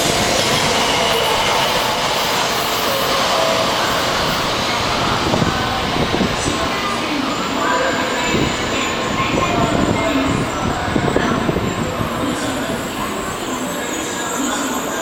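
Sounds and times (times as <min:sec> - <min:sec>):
train running on track: 0:00.0 - 0:15.0.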